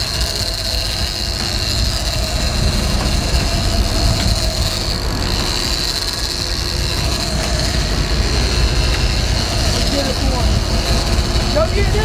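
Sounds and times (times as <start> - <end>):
boat engines running: 0.0 - 12.0.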